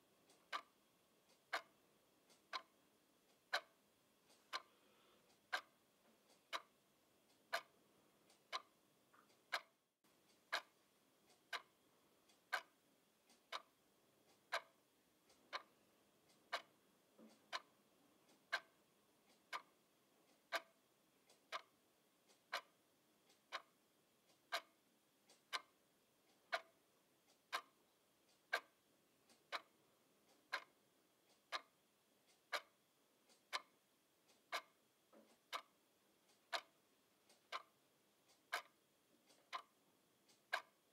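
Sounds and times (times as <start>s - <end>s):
alarm clock ticking: 0.0s - 40.9s.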